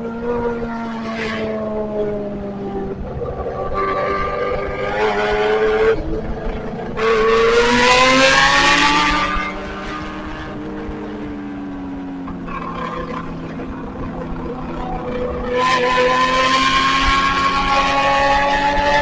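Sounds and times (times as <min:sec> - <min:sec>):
motorcycle engine revving: 0:00.0 - 0:19.0
rushing wind: 0:00.0 - 0:19.0.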